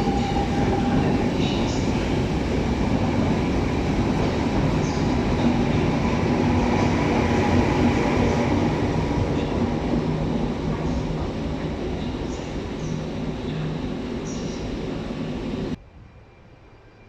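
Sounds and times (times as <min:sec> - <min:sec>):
train rail rumble: 0:00.0 - 0:17.0.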